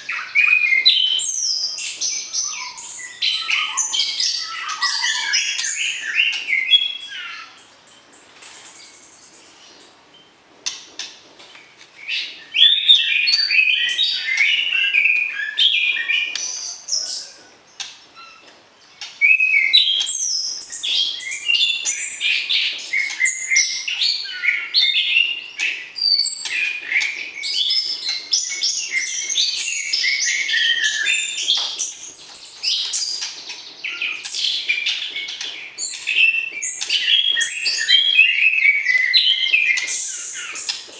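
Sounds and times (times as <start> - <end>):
bird singing whistles and chatter: 0.0 - 7.7, 12.0 - 40.9.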